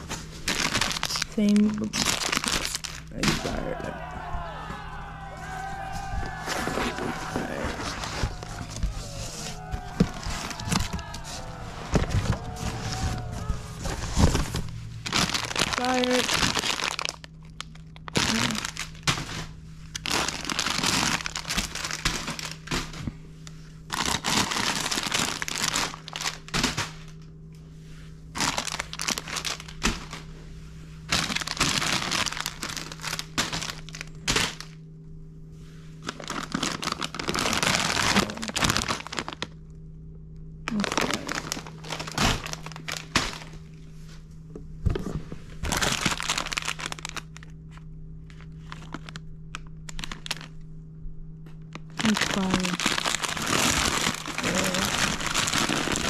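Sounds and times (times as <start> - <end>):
plastic snack bags crinkling: 0.0 - 4.5, 5.4 - 23.0, 23.9 - 27.2, 28.4 - 30.3, 31.1 - 34.8, 36.0 - 39.6, 40.7 - 43.7, 45.6 - 50.6, 51.7 - 56.0
steady low hum: 0.0 - 56.0.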